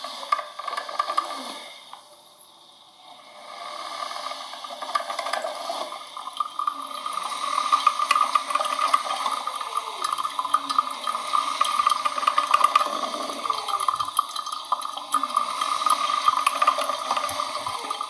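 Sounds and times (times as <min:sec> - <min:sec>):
coffee machine pumping and pouring: 0:00.0 - 0:18.0.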